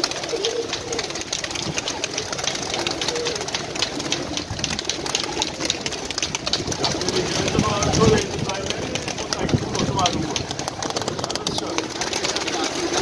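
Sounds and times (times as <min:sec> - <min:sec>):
pigeon wingbeats and wing claps: 0:00.0 - 0:13.0.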